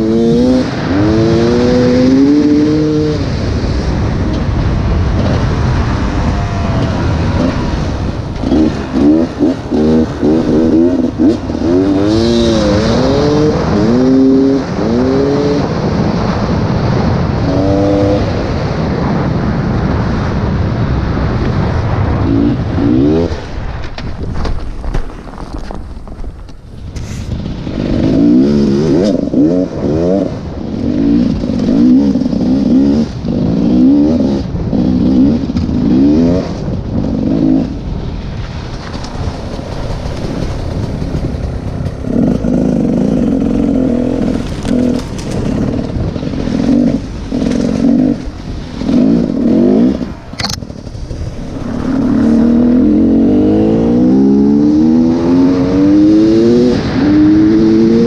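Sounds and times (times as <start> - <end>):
motorcycle engine revving: 0.0 - 20.3, 20.9 - 23.7, 27.4 - 58.0.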